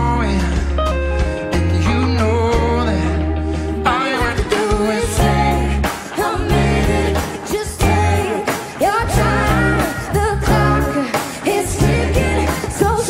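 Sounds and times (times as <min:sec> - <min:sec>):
heavy bass notes: 0:00.0 - 0:13.0
live pop band playing: 0:00.0 - 0:13.0
person singing: 0:00.0 - 0:13.0.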